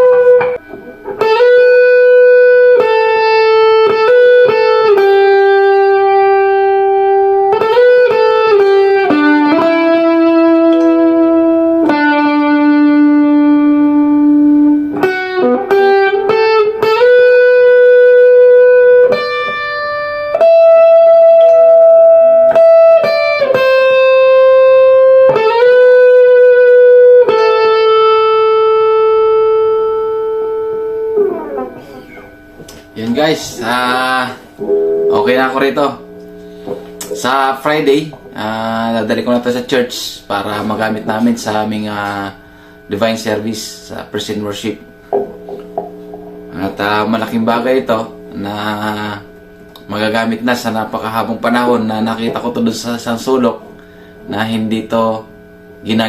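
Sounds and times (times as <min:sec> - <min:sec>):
overdriven electric guitar melody: 0:00.0 - 0:56.0.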